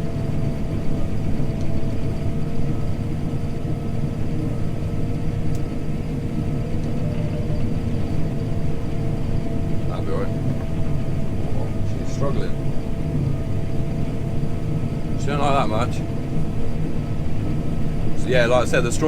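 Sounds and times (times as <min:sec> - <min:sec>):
combine harvester droning: 0:00.0 - 0:19.0
faint whines: 0:00.0 - 0:19.0.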